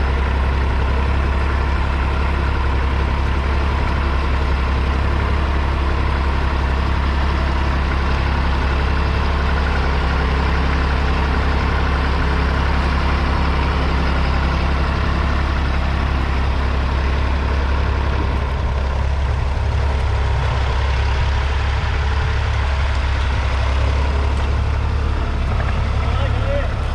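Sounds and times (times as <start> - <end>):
diesel tractor engine droning: 0.0 - 26.9.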